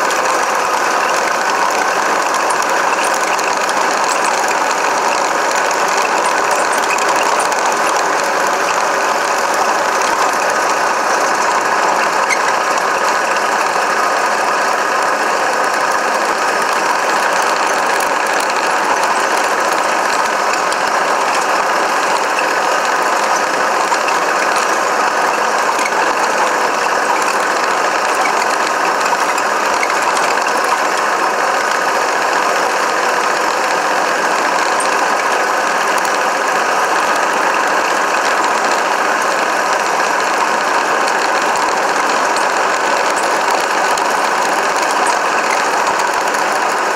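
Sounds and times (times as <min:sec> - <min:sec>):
toy car gears whirring and rattling: 0:00.0 - 0:46.9.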